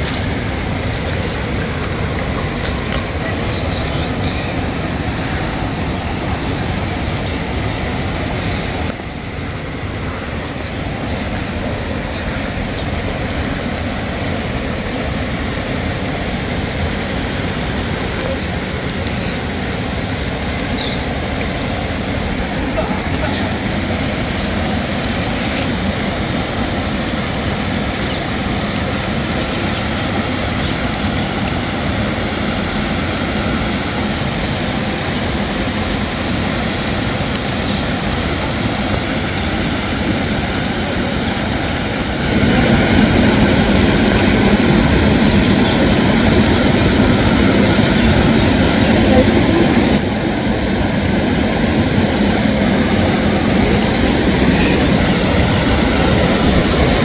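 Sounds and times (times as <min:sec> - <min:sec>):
steady rushing outdoor noise: 0:00.0 - 0:57.0.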